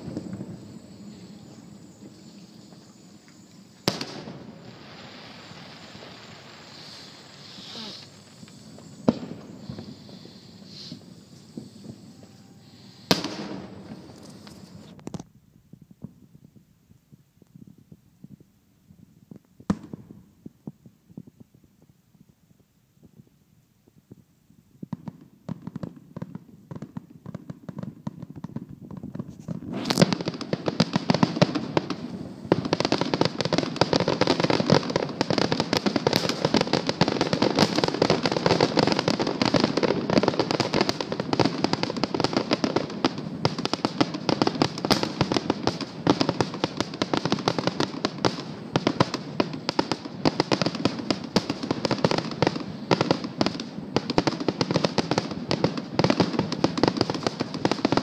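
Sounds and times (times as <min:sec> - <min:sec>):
fireworks bangs: 0:00.0 - 0:16.7, 0:17.5 - 0:21.9, 0:24.8 - 0:58.0.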